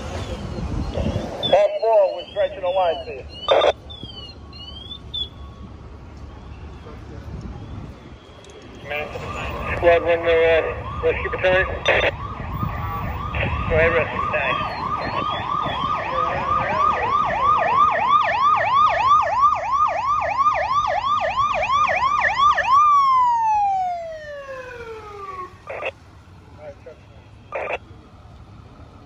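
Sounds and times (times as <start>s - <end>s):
yelping siren: 0.4s - 6.9s, 7.6s - 26.0s, 27.4s - 27.9s.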